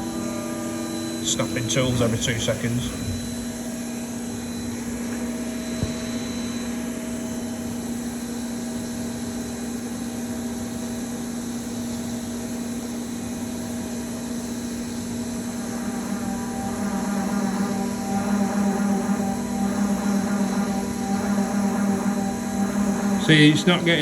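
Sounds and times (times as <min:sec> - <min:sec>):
milling machine spindle hum: 0:00.0 - 0:24.0.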